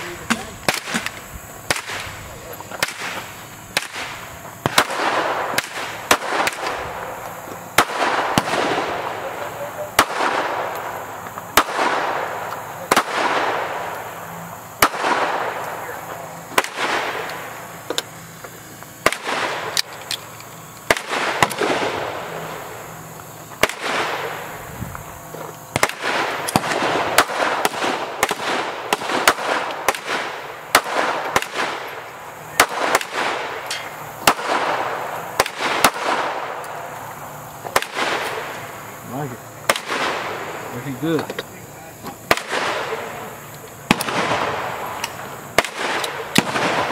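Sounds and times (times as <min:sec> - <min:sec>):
pistol gunshots with echo: 0:00.0 - 0:18.1, 0:19.0 - 0:20.0, 0:20.9 - 0:36.9, 0:37.7 - 0:41.4, 0:42.2 - 0:46.9.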